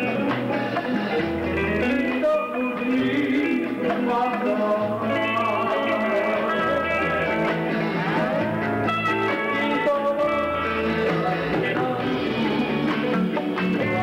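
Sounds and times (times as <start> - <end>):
electric guitar: 0.0 - 14.0
keyboard: 0.0 - 14.0.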